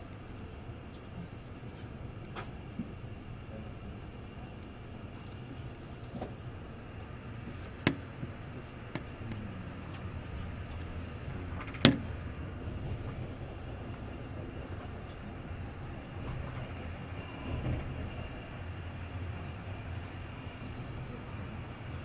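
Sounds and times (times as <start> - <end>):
train rumbling inside carriage: 0.0 - 22.0.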